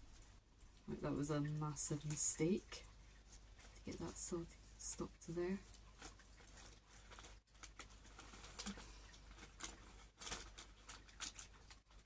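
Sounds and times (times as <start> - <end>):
wrapping paper and ribbon crinkling: 0.0 - 12.0.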